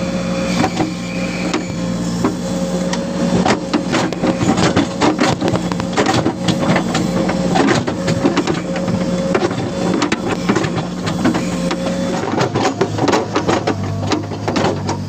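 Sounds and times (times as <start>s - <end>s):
diesel engine hum and whine: 0.0s - 15.0s
mechanical clatter and knocking: 0.6s - 15.0s.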